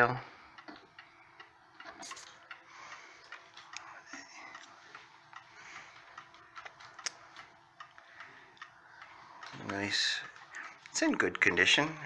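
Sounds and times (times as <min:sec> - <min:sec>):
mantel clock ticking: 0:00.0 - 0:12.0.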